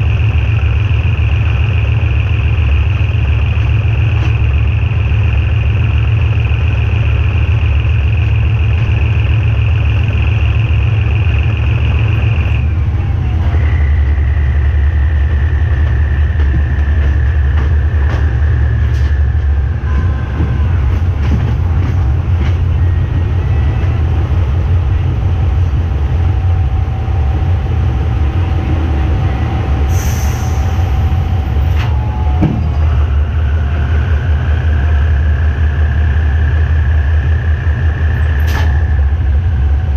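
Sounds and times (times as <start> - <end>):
high whine: 0.0 - 39.9
locomotive engine rumble: 0.0 - 39.9.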